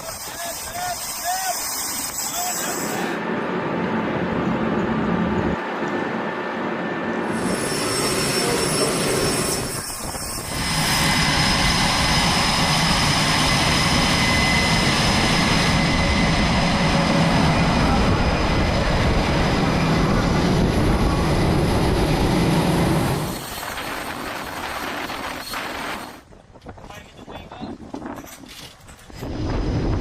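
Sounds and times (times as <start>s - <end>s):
jet engines running loudly: 0.0s - 26.2s, 29.2s - 30.0s.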